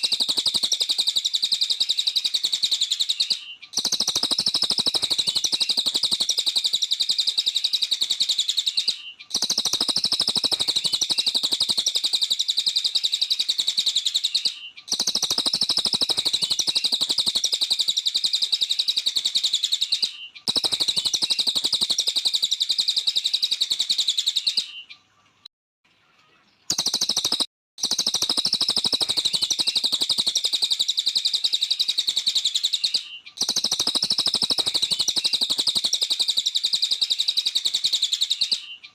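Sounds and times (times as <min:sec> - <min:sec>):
bird chattering song: 0:00.0 - 0:25.4, 0:26.0 - 0:38.9.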